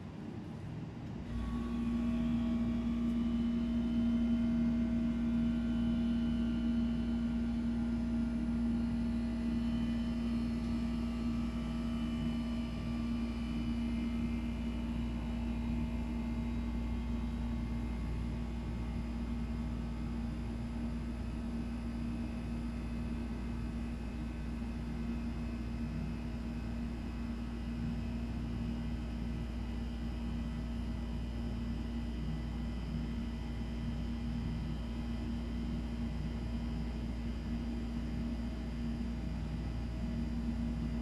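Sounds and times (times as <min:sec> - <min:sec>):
low hum with pitched tone: 0:00.0 - 0:41.0.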